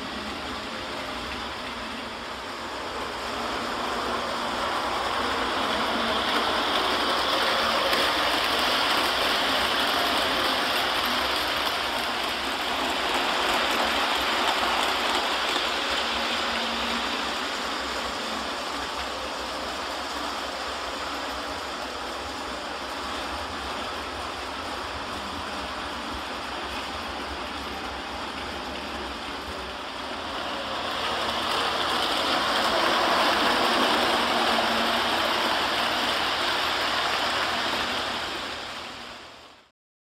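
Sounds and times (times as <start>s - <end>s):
model train rattling whir: 0.0s - 39.7s.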